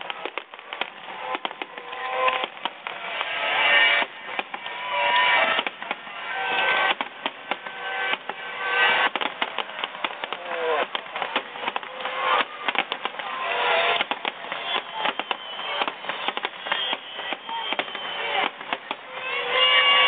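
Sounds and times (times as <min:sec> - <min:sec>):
fireworks bursting with bangs and crackles: 0:00.0 - 0:20.0.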